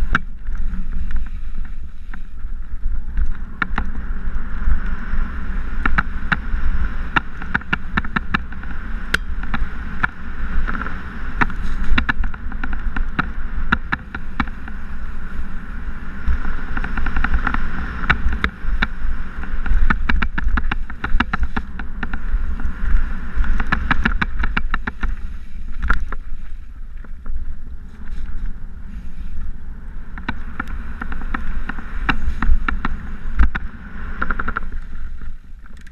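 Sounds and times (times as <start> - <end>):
bike rattling and clacking: 0.0 - 28.8, 29.5 - 35.9
wind rumbling on microphone: 0.0 - 35.9.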